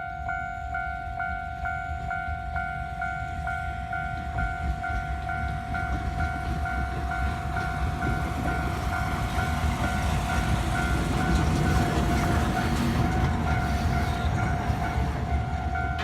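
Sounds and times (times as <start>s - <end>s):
approaching train rumble: 0.0s - 16.0s
level crossing alarm dinging: 0.0s - 16.0s.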